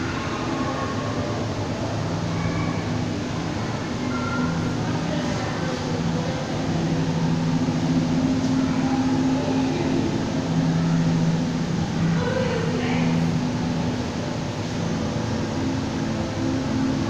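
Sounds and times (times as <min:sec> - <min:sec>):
constant rushing noise: 0:00.0 - 0:17.0
machine hum with droning tones: 0:00.0 - 0:17.0.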